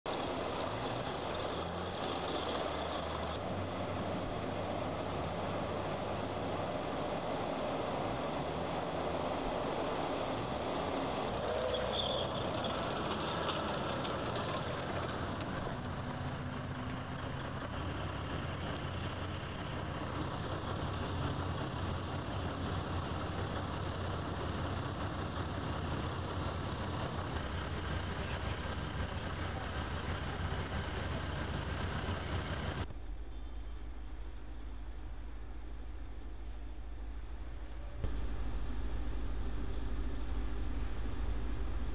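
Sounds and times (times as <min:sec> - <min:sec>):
tracked vehicle engine rumbling: 0:00.0 - 0:41.9.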